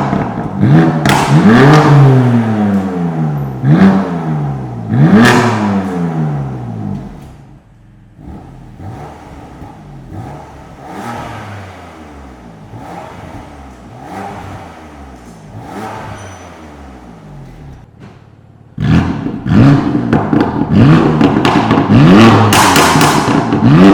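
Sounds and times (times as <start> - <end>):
car exhaust revving: 0.0 - 17.9, 18.6 - 23.9.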